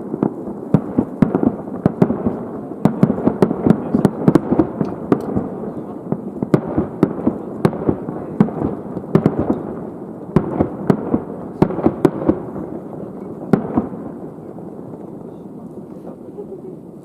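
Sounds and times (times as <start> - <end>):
fireworks bursts and bangs: 0.0 - 17.0.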